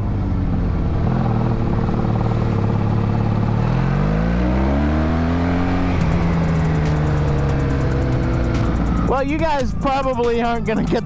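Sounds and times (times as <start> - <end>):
motorcycle engine accelerating: 0.0 - 10.3.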